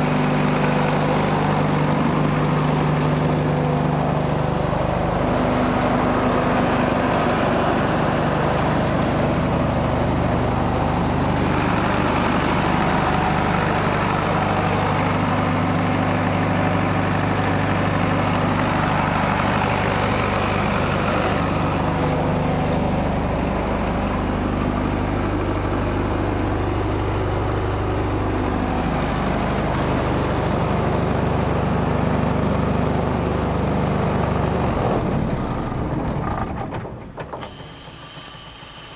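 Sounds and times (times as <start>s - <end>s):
diesel generator droning: 0.0s - 38.9s.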